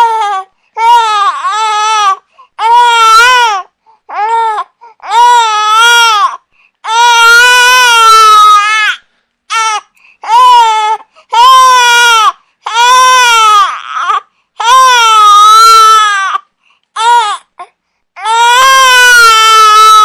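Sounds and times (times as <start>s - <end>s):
infant crying: 0.0s - 20.0s.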